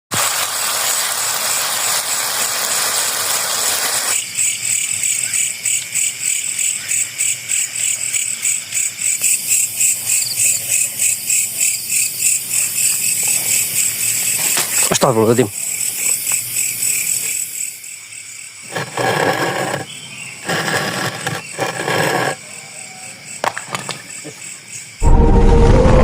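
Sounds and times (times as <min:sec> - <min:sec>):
night insects chirping: 0:01.3 - 0:26.0.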